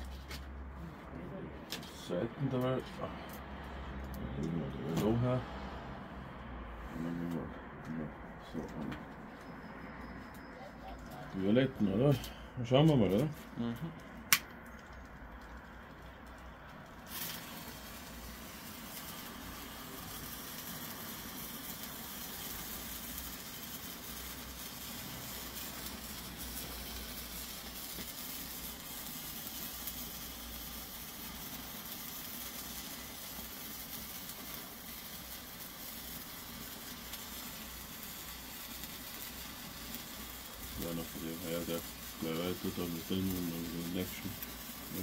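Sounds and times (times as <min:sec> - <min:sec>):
sparkler hissing: 0:00.0 - 0:00.5, 0:09.3 - 0:45.0.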